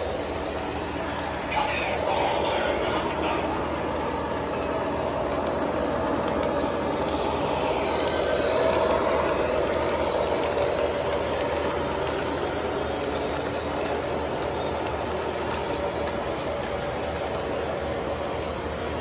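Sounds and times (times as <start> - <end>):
model train motor whir: 0.0 - 19.0
wheels rumbling over rails: 0.0 - 19.0.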